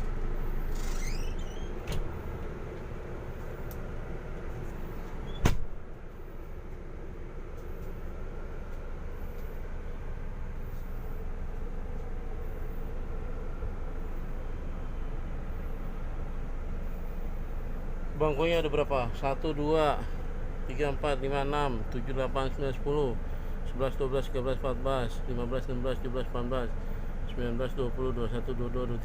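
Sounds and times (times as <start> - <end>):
bus cabin low hum: 0.0 - 29.0.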